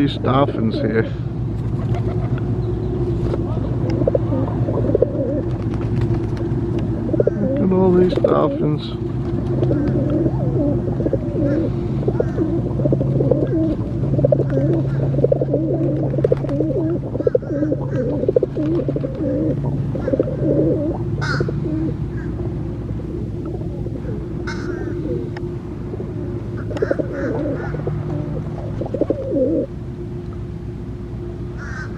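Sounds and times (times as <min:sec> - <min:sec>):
pigeons cooing: 0:00.0 - 0:29.8, 0:31.5 - 0:31.9
steady low hum: 0:00.0 - 0:31.9.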